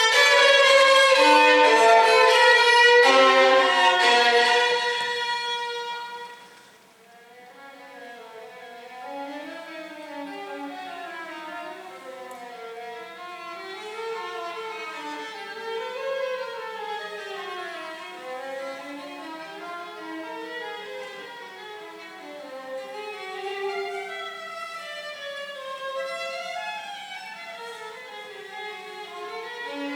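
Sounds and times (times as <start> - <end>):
bowed strings playing slow melody: 0.0 - 29.9.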